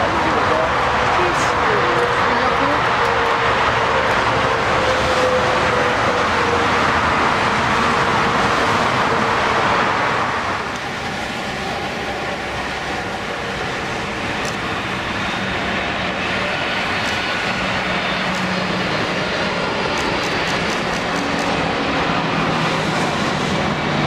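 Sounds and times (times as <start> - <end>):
jet engine whine: 0.0 - 24.0
jet engines roaring: 0.0 - 24.0.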